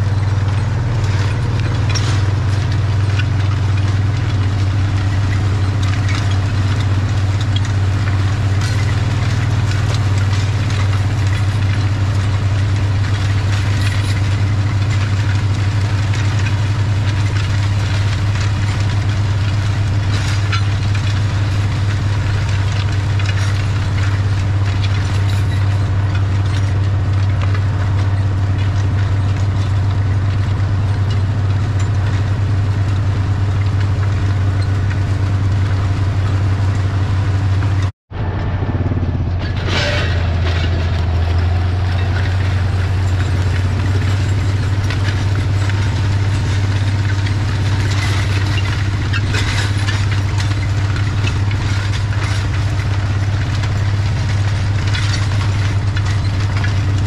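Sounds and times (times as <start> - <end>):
disc harrow rattling: 0.0 - 57.0
tractor diesel engine running: 0.0 - 57.0.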